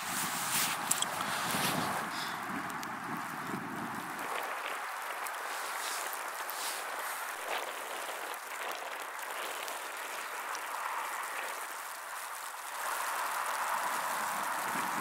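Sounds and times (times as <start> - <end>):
wind-driven snow hissing: 0.0 - 15.0.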